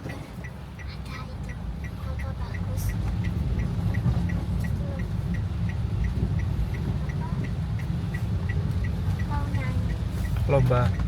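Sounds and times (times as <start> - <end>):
car turn signal ticking: 0.0 - 11.0.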